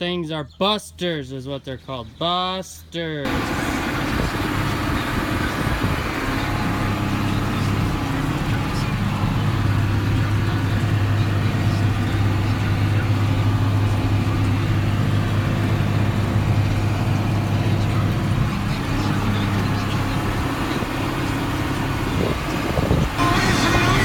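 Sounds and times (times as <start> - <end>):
engine humming steadily: 3.2 - 24.0.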